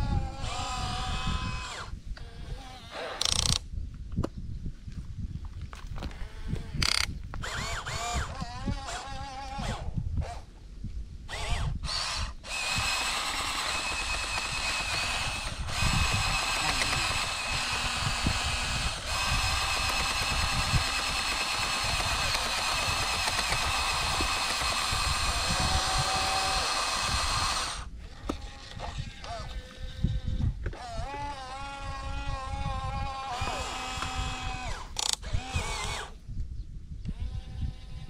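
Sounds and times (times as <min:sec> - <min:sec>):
small electric motors whining: 0:00.0 - 0:03.6, 0:06.0 - 0:10.5, 0:11.3 - 0:36.2, 0:37.0 - 0:38.0.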